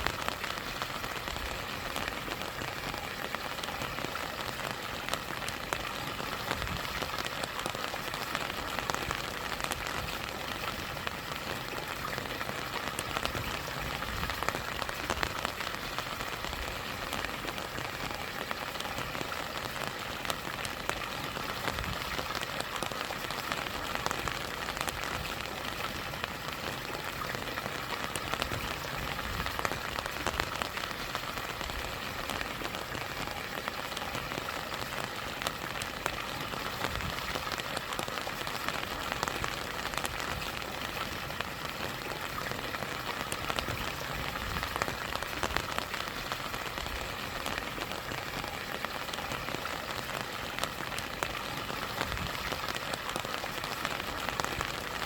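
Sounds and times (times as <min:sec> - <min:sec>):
rain drops ticking: 0:00.0 - 0:55.0
small waterfall: 0:00.0 - 0:55.0.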